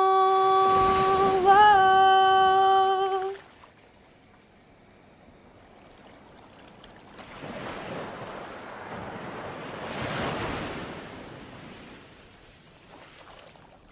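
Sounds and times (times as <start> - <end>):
ocean wave washing: 0.0 - 3.7, 5.3 - 13.8.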